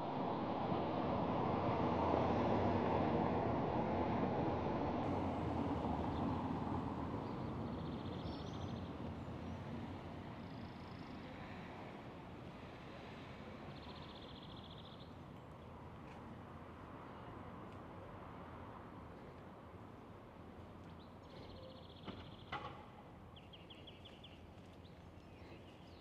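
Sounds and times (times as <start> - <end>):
town traffic rumble: 0.0 - 26.0.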